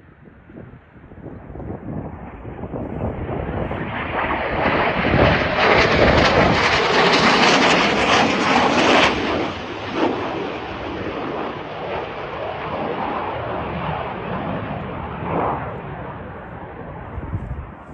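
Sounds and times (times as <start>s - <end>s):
jet aircraft flyby: 0.2s - 17.9s.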